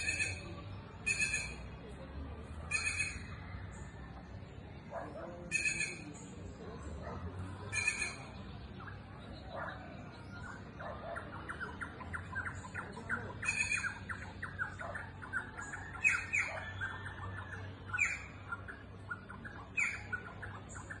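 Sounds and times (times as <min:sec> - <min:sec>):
birds harsh squawks: 0:00.0 - 0:01.8, 0:02.7 - 0:03.6, 0:05.5 - 0:06.3, 0:07.5 - 0:21.0
birds chattering: 0:00.0 - 0:21.0.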